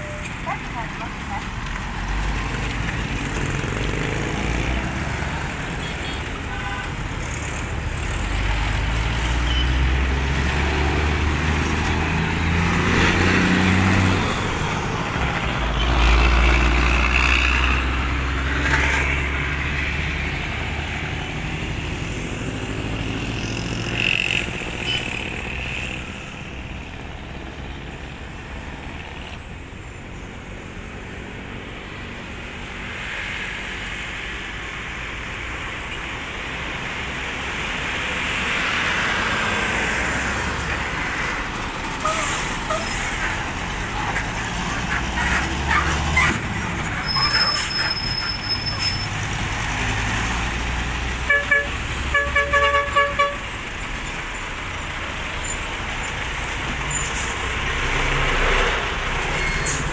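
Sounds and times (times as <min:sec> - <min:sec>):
heavy trucks passing: 0:00.0 - 0:59.9
traffic hum: 0:00.0 - 0:59.9.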